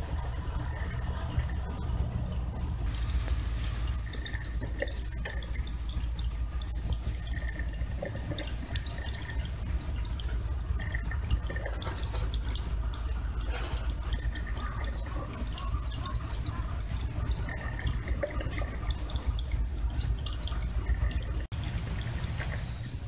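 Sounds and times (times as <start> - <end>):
steady low hum: 0.0 - 23.0
water dripping in a pond: 0.0 - 23.0.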